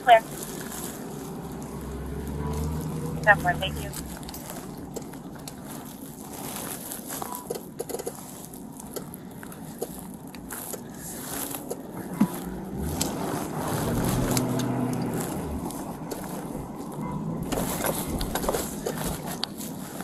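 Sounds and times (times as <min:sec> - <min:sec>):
faint rustling: 0:00.2 - 0:20.0.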